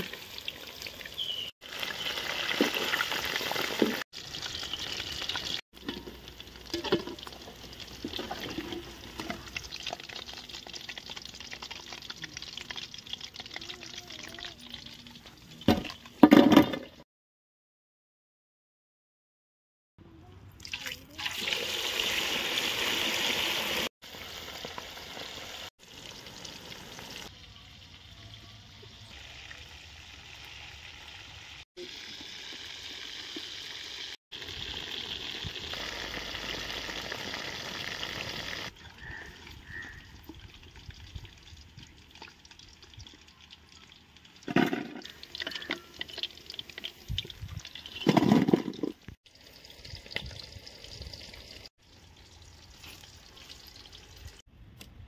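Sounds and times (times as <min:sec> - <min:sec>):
chicken sizzling in hot oil: 0:00.0 - 0:14.9, 0:21.1 - 0:48.2, 0:49.2 - 0:54.5.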